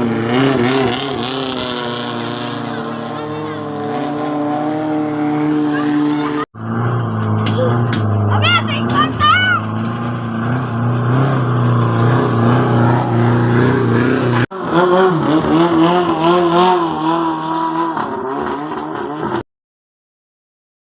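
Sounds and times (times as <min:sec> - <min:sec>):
boat engine humming: 0:00.0 - 0:19.2
engine revving: 0:00.0 - 0:19.4.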